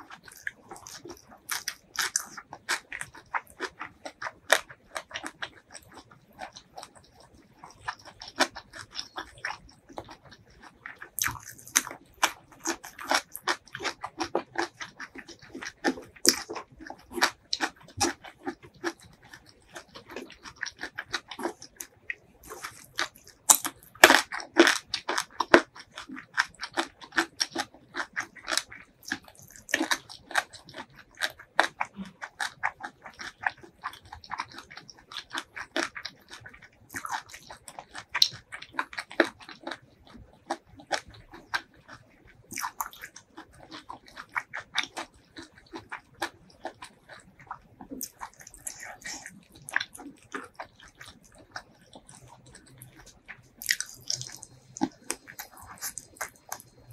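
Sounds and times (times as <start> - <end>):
chewing crisp cucumber: 0.0 - 56.9.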